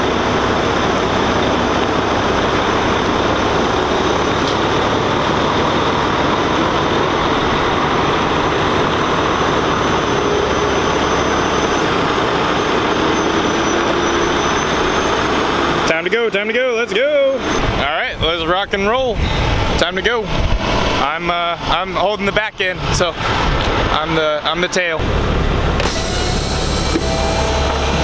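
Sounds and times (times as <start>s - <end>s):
diesel truck engines idling: 0.0s - 28.0s.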